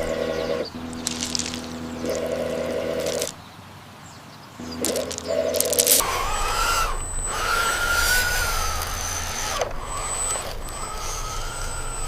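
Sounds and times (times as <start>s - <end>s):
small electric motors whining: 0.0s - 3.4s, 4.6s - 12.0s.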